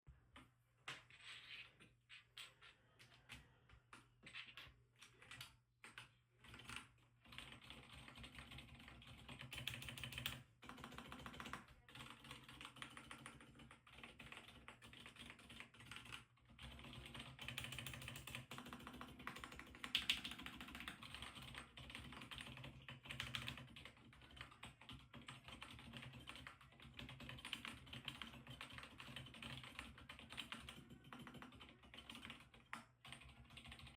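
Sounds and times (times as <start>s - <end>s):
soft keyboard keystrokes: 2.5s - 33.9s.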